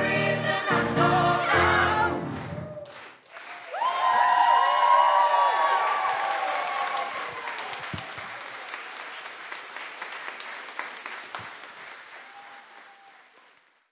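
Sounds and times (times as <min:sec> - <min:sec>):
audience applauding: 0:02.3 - 0:13.9.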